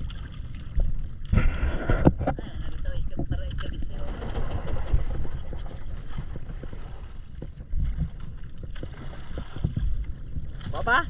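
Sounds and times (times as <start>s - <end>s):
wind and water buffeting microphone: 0.0s - 11.0s.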